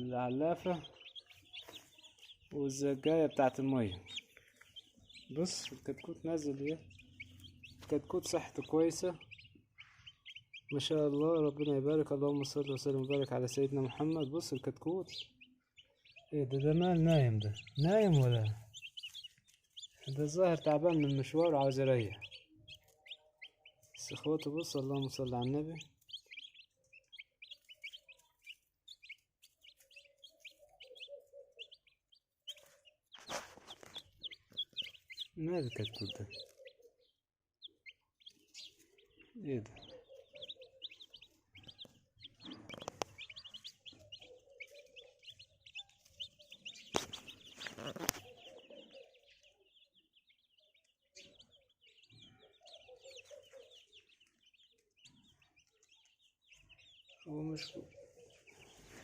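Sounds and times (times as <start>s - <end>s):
chicks peeping: 0.0s - 59.0s.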